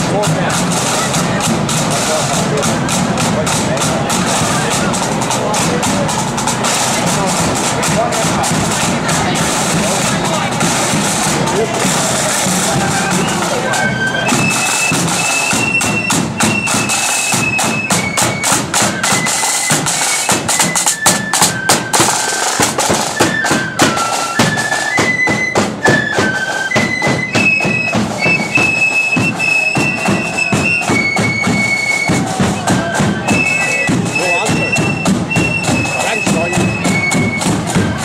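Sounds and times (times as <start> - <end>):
marching band playing: 0.0 - 38.0
snare and bass drumming: 0.0 - 38.0.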